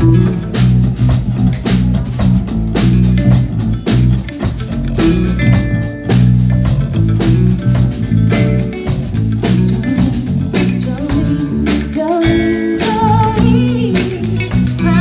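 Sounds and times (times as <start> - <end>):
bass guitar: 0.0 - 15.0
drum kit steady beat: 0.0 - 15.0
electric guitar: 0.0 - 15.0.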